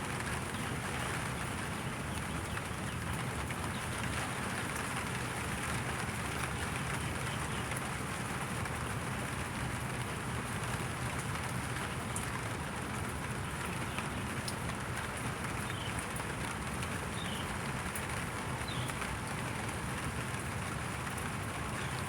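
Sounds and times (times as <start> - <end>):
steady rain hiss: 0.0 - 22.0
raindrop ticks: 0.1 - 22.0.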